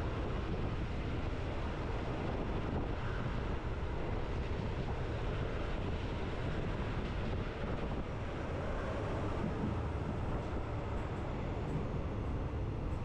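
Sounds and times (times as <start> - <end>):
moving train running noise: 0.0 - 13.0.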